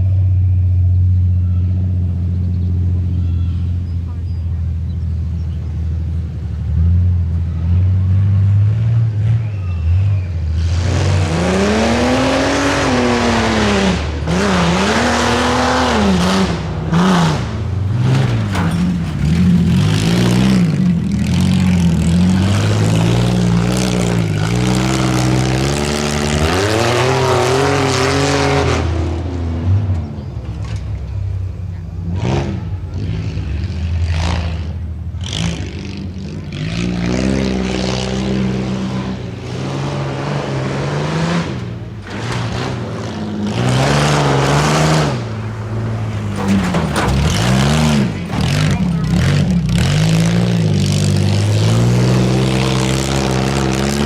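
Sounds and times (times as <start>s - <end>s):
truck engine revving hard: 0.0s - 54.0s.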